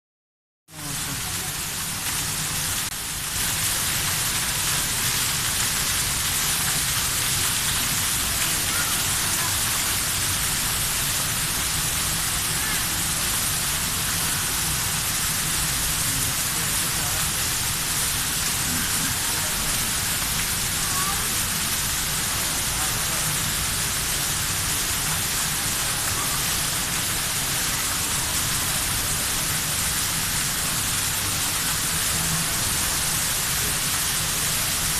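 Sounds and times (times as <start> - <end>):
rain hissing: 0.7 - 34.9.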